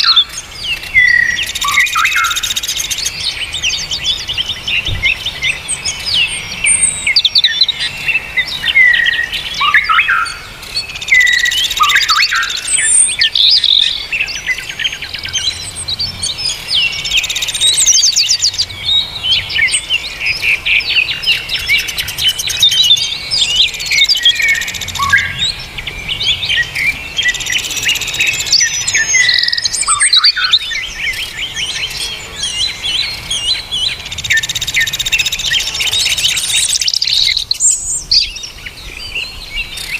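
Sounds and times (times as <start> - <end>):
songbirds chirping and trilling: 0.0 - 39.9
buzzy bird trill: 5.9 - 38.3.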